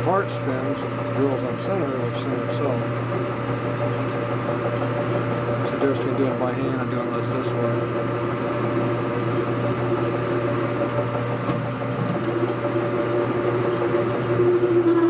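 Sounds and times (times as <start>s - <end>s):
metal lathe motor hum: 0.0s - 15.0s.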